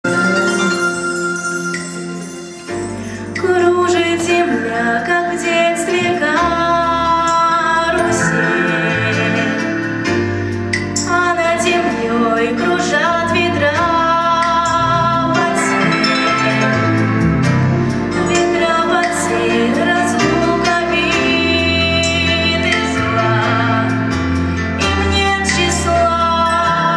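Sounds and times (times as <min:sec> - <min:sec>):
instrumental backing track: 0:00.0 - 0:26.9.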